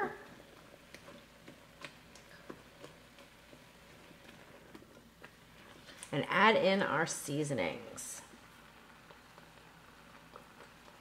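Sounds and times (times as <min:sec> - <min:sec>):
wooden spoon stirring in a pot: 0:00.0 - 0:11.0.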